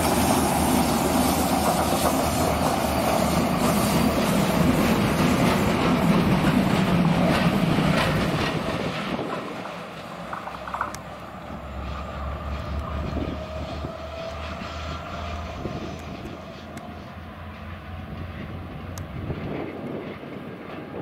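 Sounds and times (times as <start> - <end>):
diesel locomotive engine drone: 0.0 - 21.0
train whine and rolling noise: 0.0 - 21.0.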